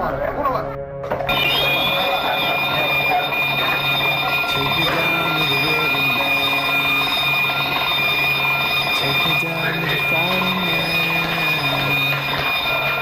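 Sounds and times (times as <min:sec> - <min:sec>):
alarm ringing: 0:01.3 - 0:13.0.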